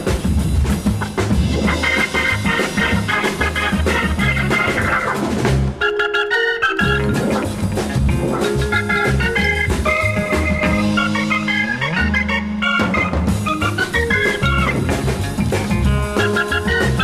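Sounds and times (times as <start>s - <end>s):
jazz with organ bass and drums: 0.0s - 17.0s.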